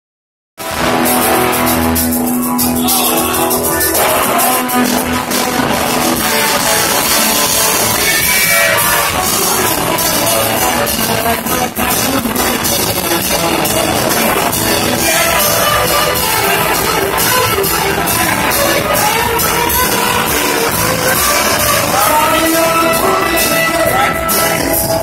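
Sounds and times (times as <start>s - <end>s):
drum kit: 0.6s - 25.0s
electric guitars: 0.6s - 25.0s.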